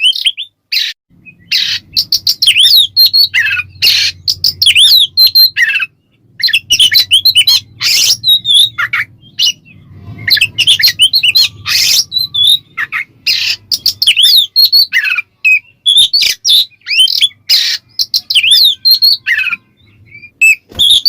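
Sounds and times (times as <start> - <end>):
songbird singing whistled notes: 0.0 - 21.0.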